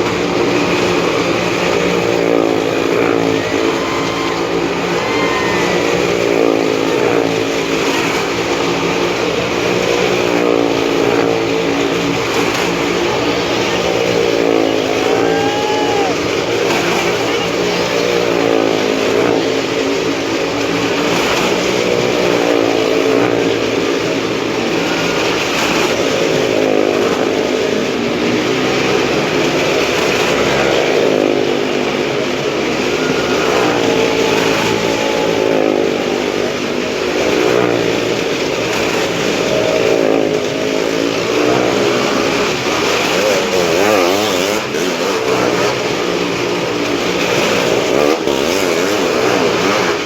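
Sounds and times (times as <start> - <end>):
motorcycle and car engines revving: 0.0 - 50.0.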